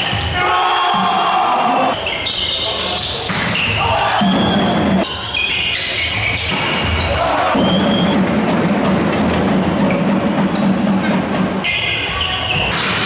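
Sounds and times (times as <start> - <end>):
crowd noise: 0.0 - 13.0
percussion from the stands: 0.0 - 13.0.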